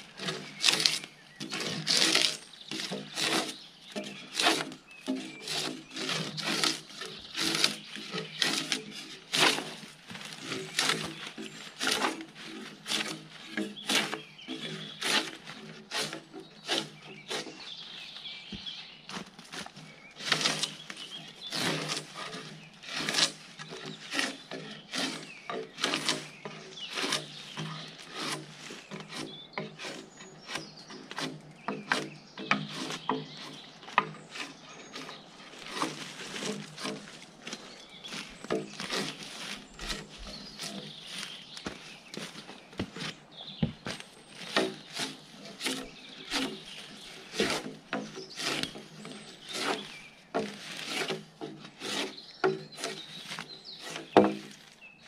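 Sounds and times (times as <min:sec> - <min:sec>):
drawknife scraping bark off log: 0:00.1 - 0:17.6, 0:19.1 - 0:54.8.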